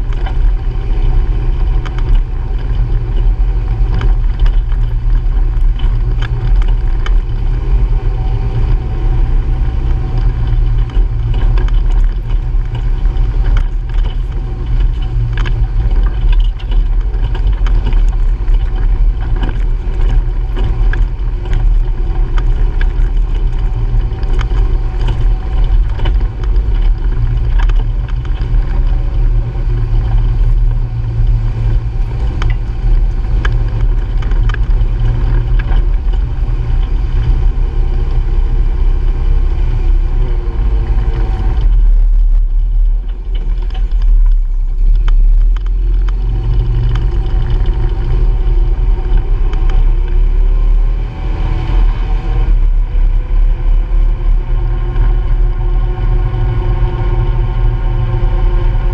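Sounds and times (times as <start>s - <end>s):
engine droning: 0.0s - 58.9s
knocks and rattles of vehicle bouncing: 0.0s - 58.9s.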